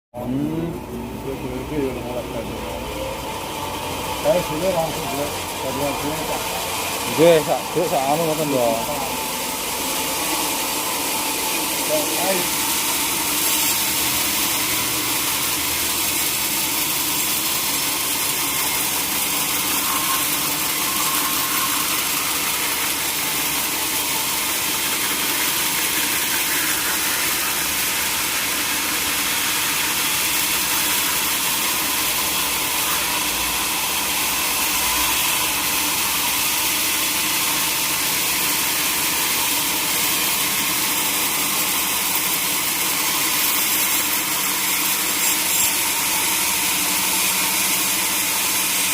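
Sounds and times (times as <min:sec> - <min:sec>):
sawmill machinery running: 0:00.2 - 0:48.9.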